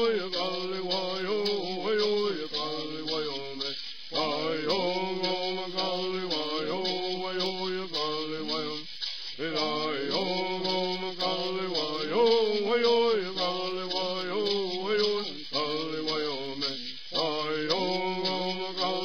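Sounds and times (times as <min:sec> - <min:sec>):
man singing chanted phrases: 0:00.0 - 0:08.8, 0:09.4 - 0:19.0
gourd rattle shaken: 0:00.0 - 0:19.0.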